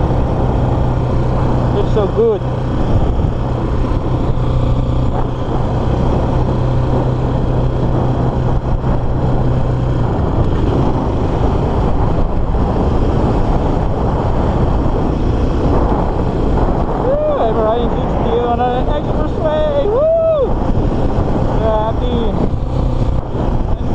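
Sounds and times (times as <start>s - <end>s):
motorcycle engine cruising: 0.0s - 23.9s
road noise: 0.0s - 23.9s
wind rush on microphone: 0.0s - 23.9s.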